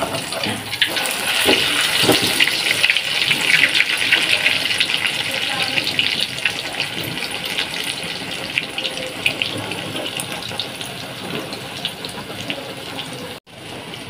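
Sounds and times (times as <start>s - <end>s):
egg frying sizzle: 0.0s - 14.0s.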